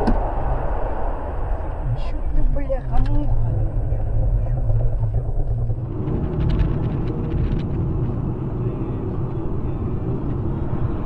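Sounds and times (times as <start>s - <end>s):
car cabin rumble: 0.0s - 0.7s, 1.5s - 11.0s.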